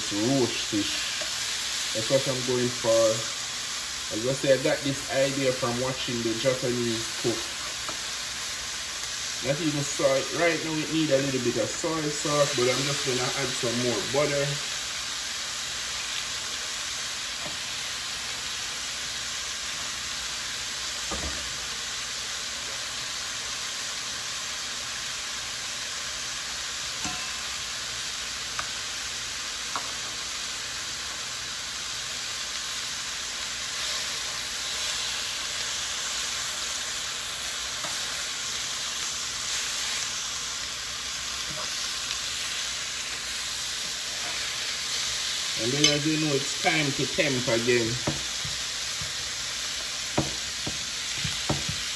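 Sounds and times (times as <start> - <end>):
meat sizzling in a pan: 0.0 - 51.9.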